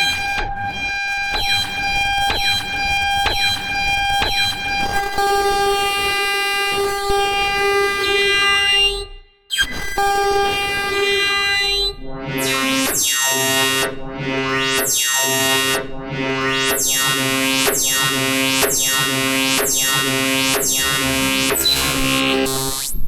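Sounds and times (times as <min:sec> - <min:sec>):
dense synthesizer chords: 0:00.0 - 0:08.3, 0:10.0 - 0:22.9.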